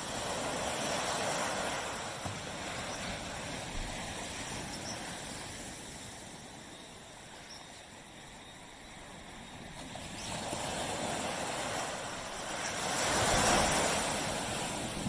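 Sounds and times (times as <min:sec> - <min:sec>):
gentle surf washing on beach: 0:00.0 - 0:15.0.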